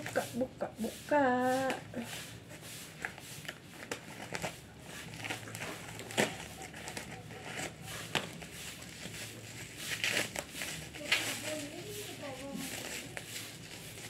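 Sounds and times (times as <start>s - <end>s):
plastic crinkling and rustling: 0.0s - 0.4s, 1.2s - 14.0s.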